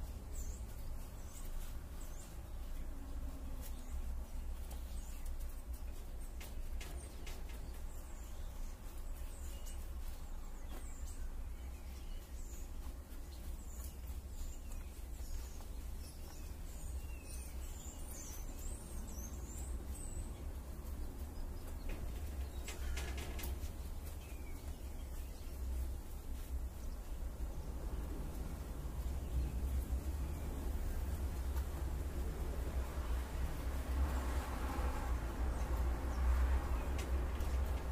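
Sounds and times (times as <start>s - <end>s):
low outdoor background rumble: 0.0s - 37.9s
small birds chirping: 0.0s - 37.9s.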